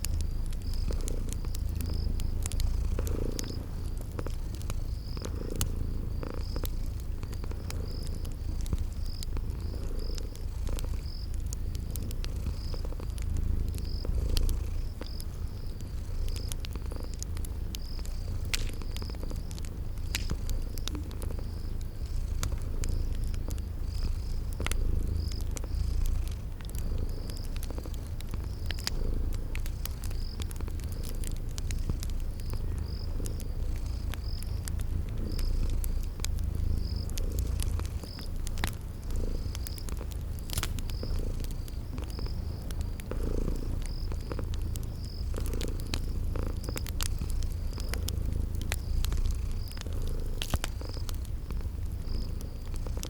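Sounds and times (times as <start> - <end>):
cat purring: 0.0 - 53.0
cricket chirping: 0.0 - 53.0
wood fire crackling: 0.0 - 53.0.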